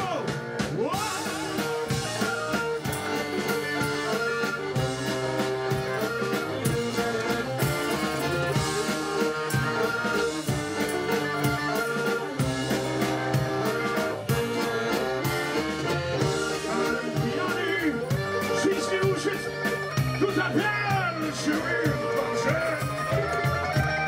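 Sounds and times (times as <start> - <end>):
accordion: 0.0 - 24.0
drum kit beat: 0.0 - 24.0
electric guitar: 0.0 - 24.0
rock band playing: 0.0 - 24.0.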